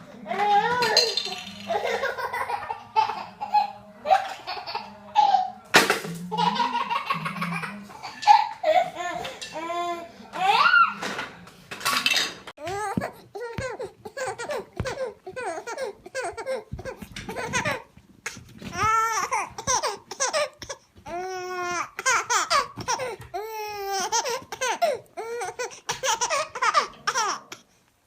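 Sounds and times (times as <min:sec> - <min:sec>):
baby laughing: 0:00.4 - 0:05.5, 0:06.3 - 0:09.3, 0:12.6 - 0:27.6.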